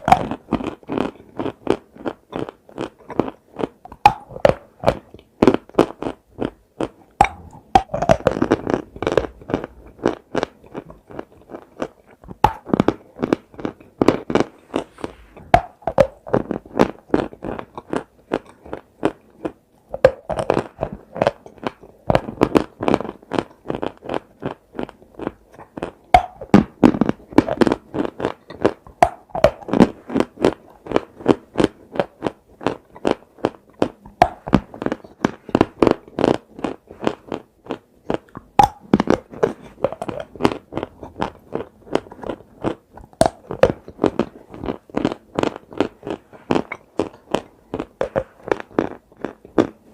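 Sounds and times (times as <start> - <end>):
chewing crunches: 0.0 - 49.9.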